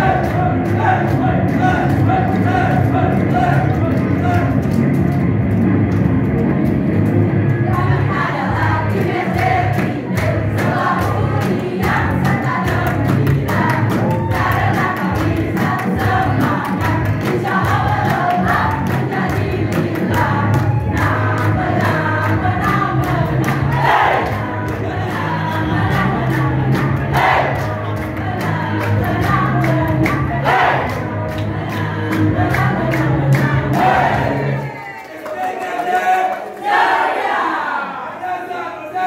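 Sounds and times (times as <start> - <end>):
group singing a cheer in unison: 0.0 - 4.5, 7.5 - 38.6
music: 0.0 - 35.1.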